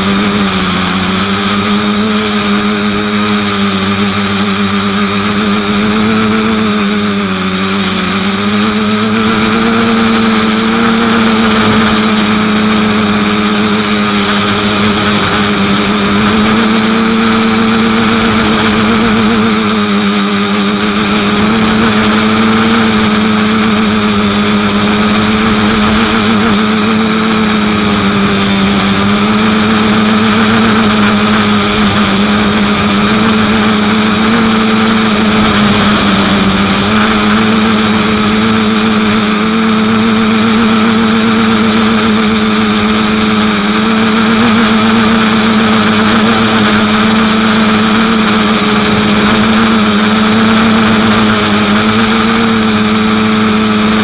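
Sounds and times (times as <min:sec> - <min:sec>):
model plane motor drone: 0:00.0 - 0:54.0
thin high whine: 0:00.0 - 0:54.0.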